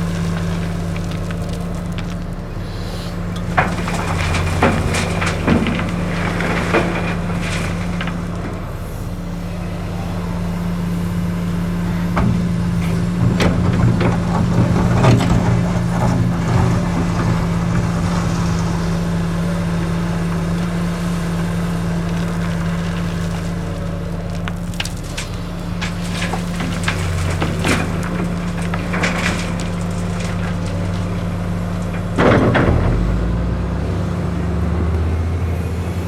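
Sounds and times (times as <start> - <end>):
excavator diesel engine running: 0.0 - 36.0
gravel crunching and clattering: 0.0 - 36.0.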